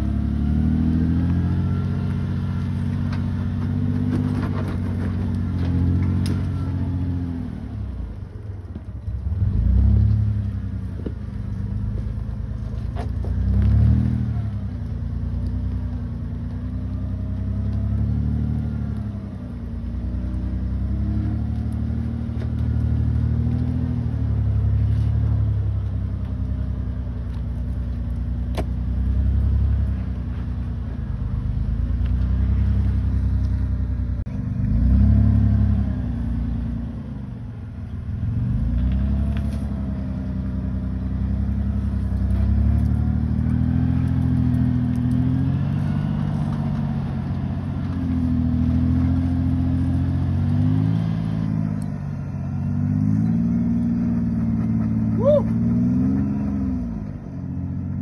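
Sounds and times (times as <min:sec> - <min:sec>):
vehicle engine revving: 0:00.0 - 0:58.0.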